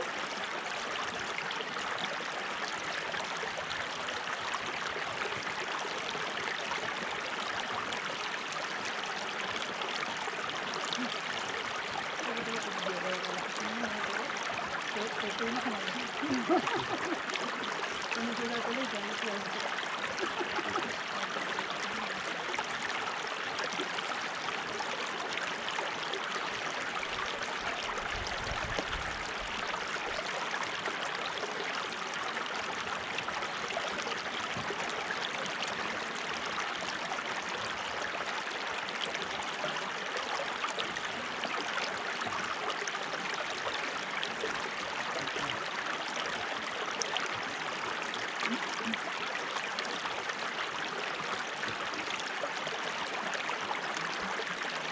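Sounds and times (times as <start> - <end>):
water flowing: 0.0 - 54.9.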